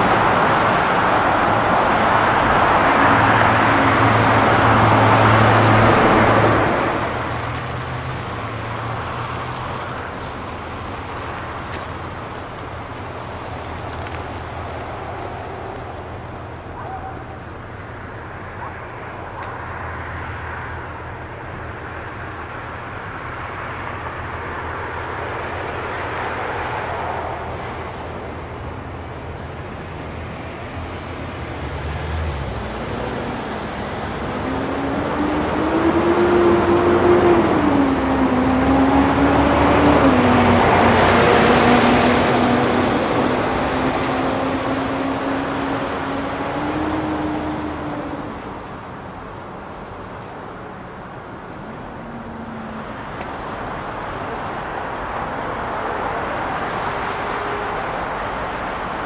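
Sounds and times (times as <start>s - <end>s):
dump truck diesel engine accelerating: 0.0s - 59.0s
engines idling: 0.0s - 59.0s
street traffic: 0.0s - 59.0s.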